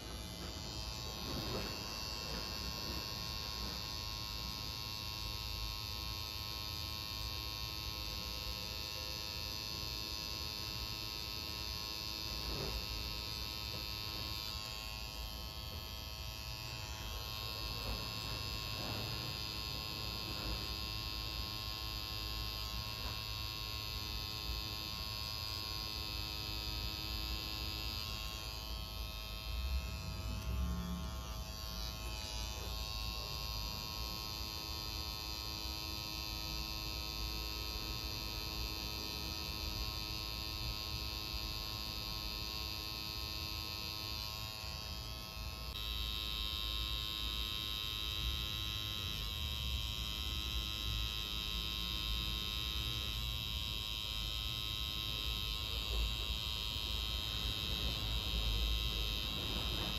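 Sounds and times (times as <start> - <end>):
tattoo machine buzzing: 0.0 - 59.9.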